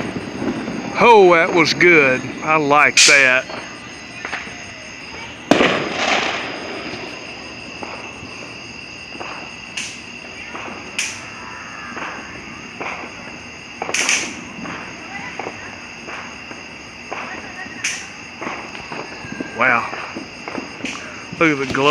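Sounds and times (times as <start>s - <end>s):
fireworks bangs: 0.0s - 21.9s
fireworks crackling: 0.0s - 21.9s.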